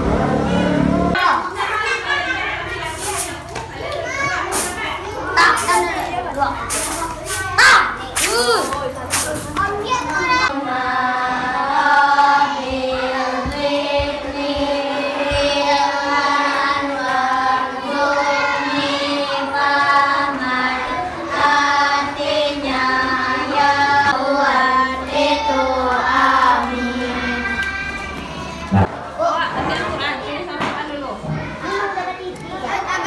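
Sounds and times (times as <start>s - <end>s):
children singing: 0.0s - 29.0s.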